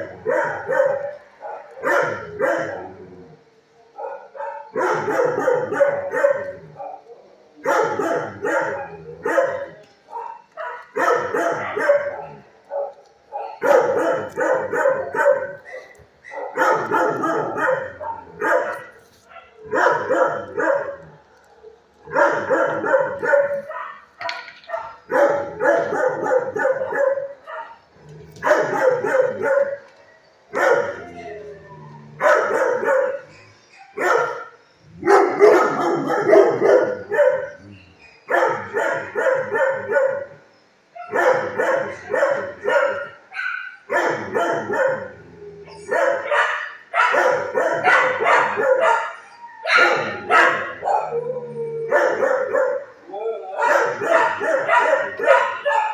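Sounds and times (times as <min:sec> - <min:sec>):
dogs barking: 0:00.0 - 0:03.1, 0:03.9 - 0:31.3, 0:32.0 - 0:55.9.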